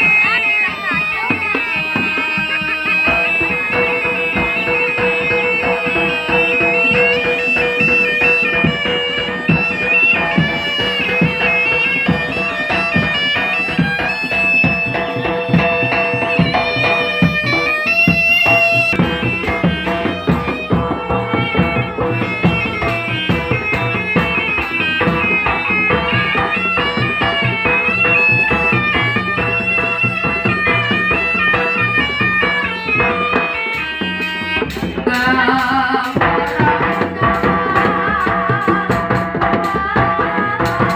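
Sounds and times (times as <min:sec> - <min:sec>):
hand drum strokes: 0:00.0 - 0:40.9
sharp percussion hits: 0:00.0 - 0:40.9
shrill double-reed shawm melody: 0:00.0 - 0:40.9.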